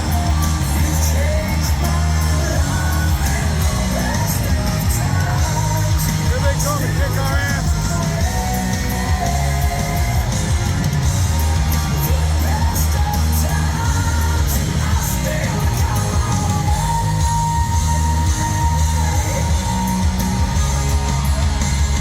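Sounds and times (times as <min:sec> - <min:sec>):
concert crowd yelling: 0:00.0 - 0:22.0
loud rock music: 0:00.0 - 0:22.0.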